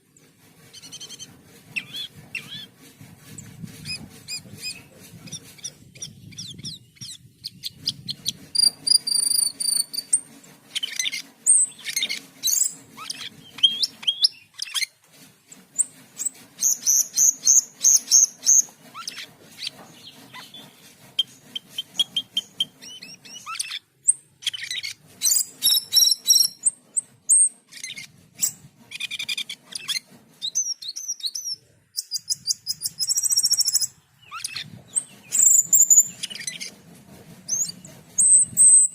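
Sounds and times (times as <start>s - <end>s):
starling singing: 3.8s - 15.0s, 16.6s - 36.8s.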